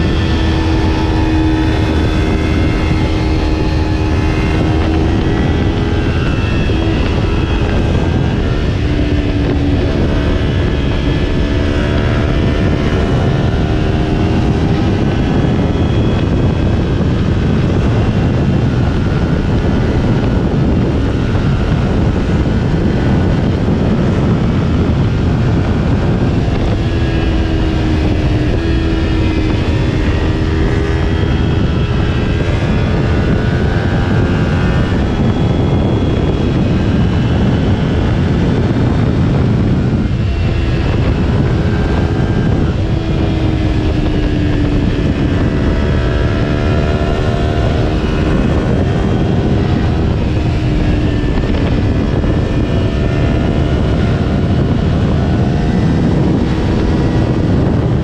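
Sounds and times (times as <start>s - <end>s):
motorcycle engine cruising: 0.0s - 58.0s
road noise: 0.0s - 58.0s
wind rush: 0.0s - 58.0s.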